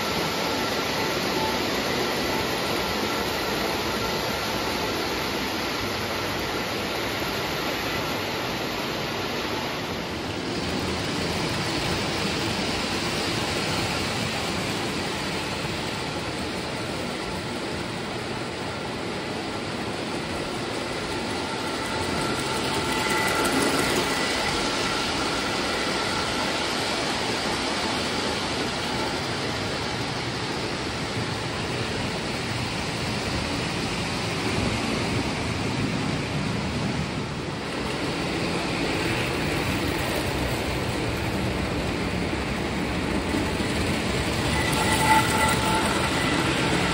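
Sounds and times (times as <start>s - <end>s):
model train rumbling: 0.0s - 46.9s.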